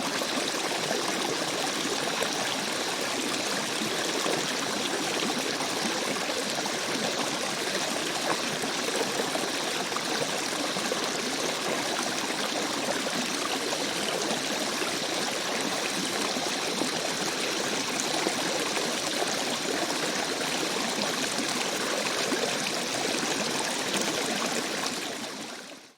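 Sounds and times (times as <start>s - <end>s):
stream trickling: 0.0s - 25.9s.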